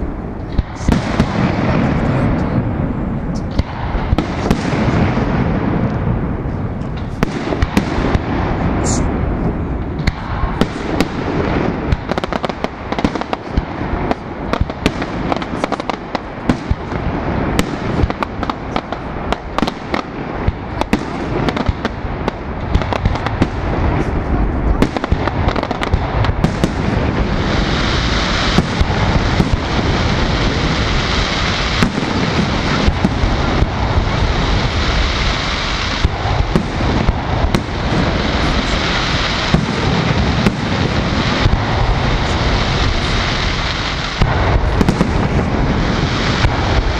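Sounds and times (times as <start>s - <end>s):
fireworks bangs and pops: 0.0s - 46.9s
high firework crackle: 0.0s - 46.9s.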